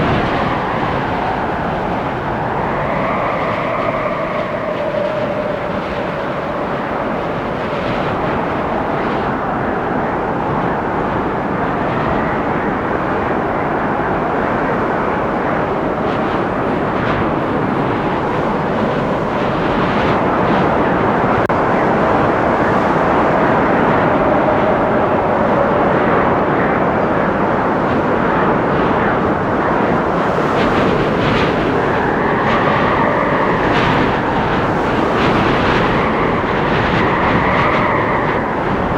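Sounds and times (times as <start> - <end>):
wind rushing through trees: 0.0 - 38.9.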